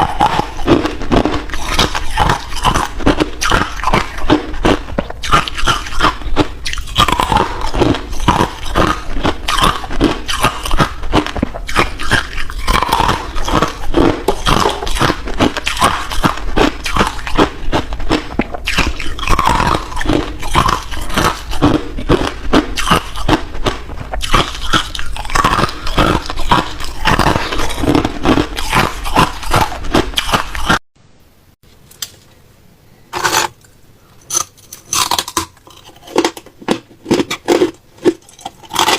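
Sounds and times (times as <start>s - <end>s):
person crunching ice: 0.0s - 30.8s, 33.2s - 33.6s, 34.3s - 38.9s.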